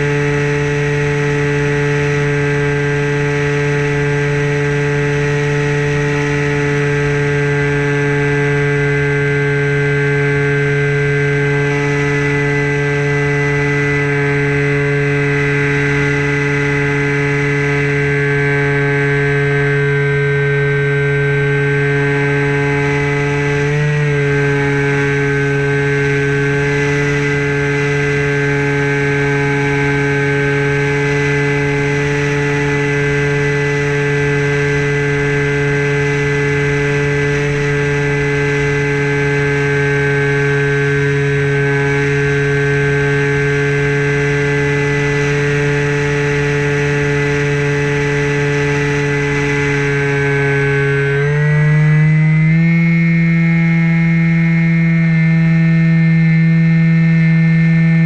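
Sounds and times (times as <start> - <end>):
electric motor and propeller whine: 0.0 - 58.0.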